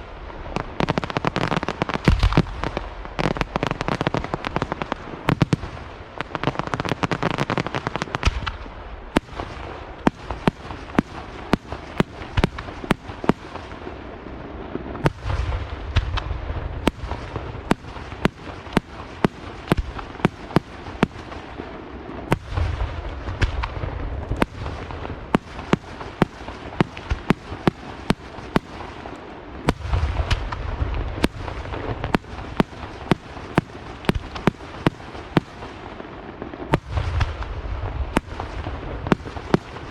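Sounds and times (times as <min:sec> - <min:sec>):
deep firework booms: 0:00.0 - 0:07.4, 0:08.1 - 0:39.9
fireworks crackling: 0:00.0 - 0:39.9.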